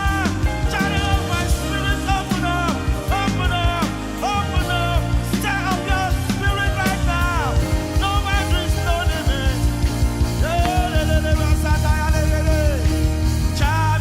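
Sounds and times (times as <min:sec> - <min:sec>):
band with drums and bass: 0:00.0 - 0:14.0
group of singers: 0:00.0 - 0:14.0.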